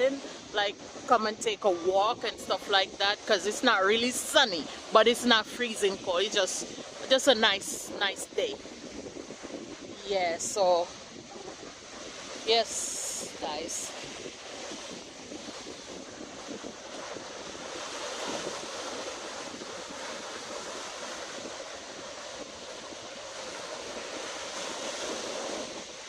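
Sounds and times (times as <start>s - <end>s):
ocean surf washing onto beach: 0.0s - 26.0s
wind on microphone: 0.0s - 26.0s.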